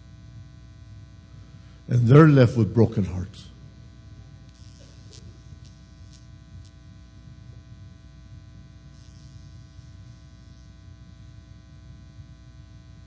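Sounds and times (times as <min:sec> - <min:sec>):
electrical buzz and mains hum: 0:00.0 - 0:13.0.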